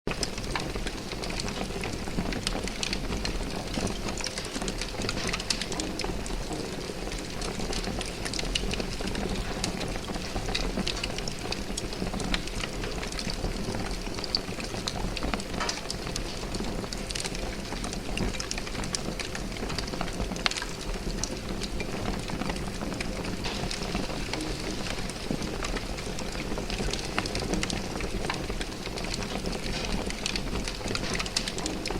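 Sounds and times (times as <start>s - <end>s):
fire crackling and popping: 0.1s - 31.9s
rumble of flames: 0.1s - 31.9s.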